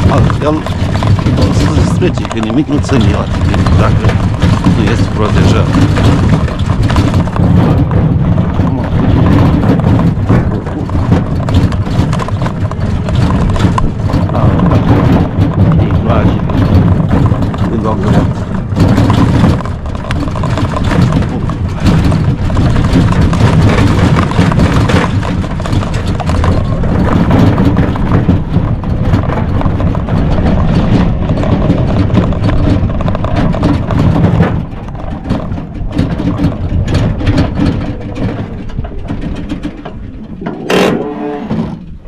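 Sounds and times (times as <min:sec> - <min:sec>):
knocks and rattles from rough ground: 0:00.0 - 0:42.0
tricycle drive running: 0:00.0 - 0:42.0
wind noise on microphone: 0:00.0 - 0:42.0.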